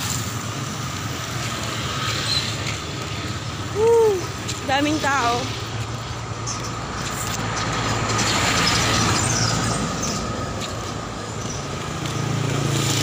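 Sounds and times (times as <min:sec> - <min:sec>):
road traffic hum: 0:00.0 - 0:13.0
vehicle passing: 0:00.0 - 0:13.0.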